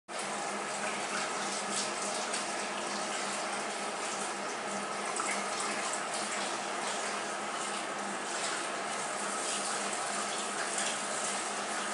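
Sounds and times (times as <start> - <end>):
water running and splashing: 0.1 - 11.9.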